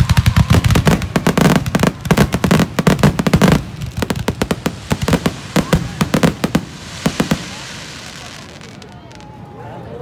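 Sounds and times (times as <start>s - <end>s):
fireworks crackling and popping: 0.0s - 9.5s.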